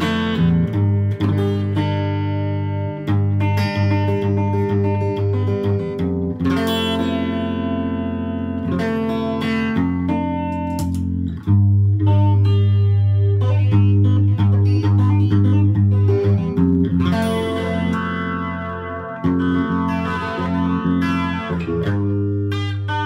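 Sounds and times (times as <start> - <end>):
electric guitar ringing notes: 0.0 - 23.0.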